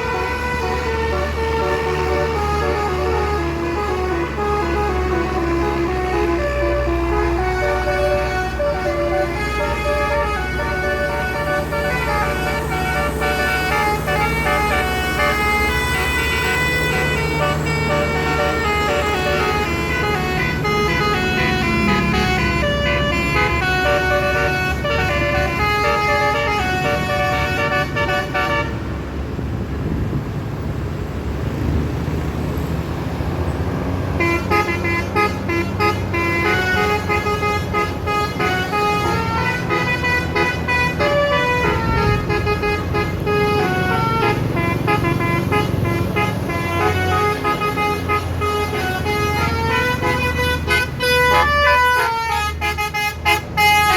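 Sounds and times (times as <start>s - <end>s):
musical air horn tune: 0.0s - 28.8s, 34.2s - 53.9s
bus engine drone: 0.0s - 53.9s.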